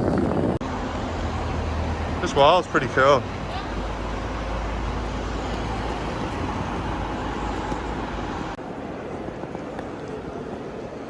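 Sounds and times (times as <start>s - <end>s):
busy airport rumble and hiss: 0.3s - 11.0s.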